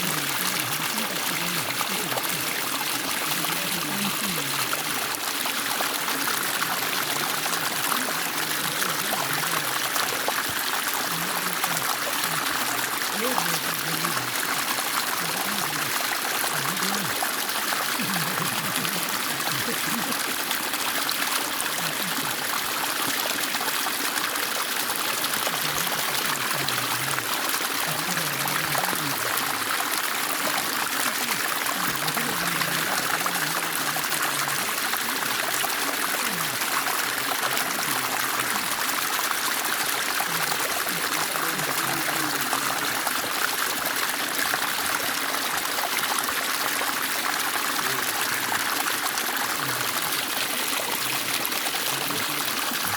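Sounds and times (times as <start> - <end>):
stream water splashing: 0.0 - 52.9.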